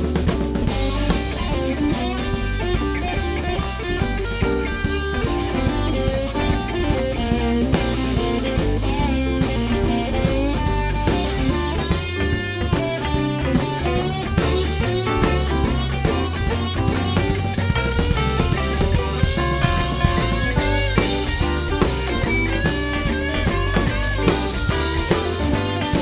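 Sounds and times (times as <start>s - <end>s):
bass guitar: 0.0s - 26.0s
drum kit: 0.0s - 26.0s
electric guitar lead: 0.0s - 26.0s.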